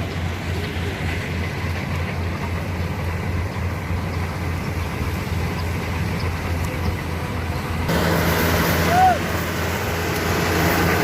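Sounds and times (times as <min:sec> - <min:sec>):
harvester engine droning: 0:00.0 - 0:11.0.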